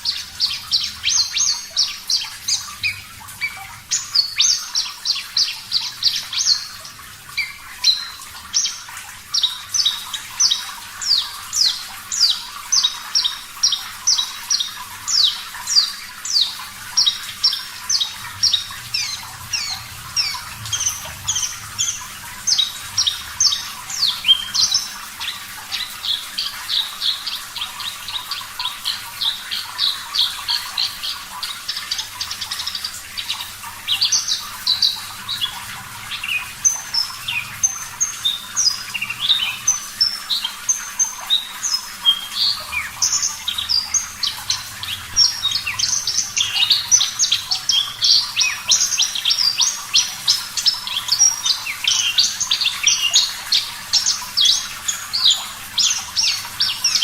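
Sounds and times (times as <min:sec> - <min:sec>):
bird singing varied chirps: 0:00.0 - 0:57.0
running water hiss: 0:00.0 - 0:57.0.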